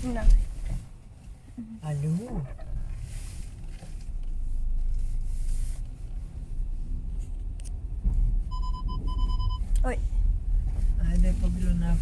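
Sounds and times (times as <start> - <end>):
car cabin rumble while driving: 0.0 - 12.0.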